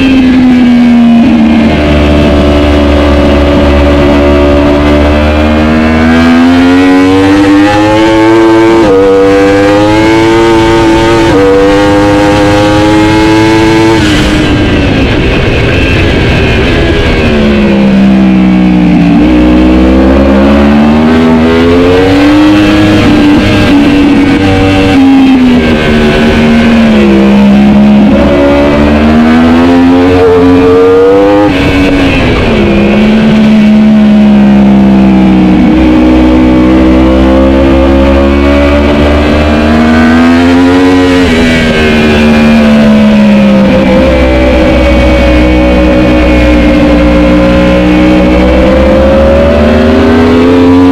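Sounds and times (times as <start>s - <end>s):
racing motorcycle engine revving: 0.0s - 50.9s.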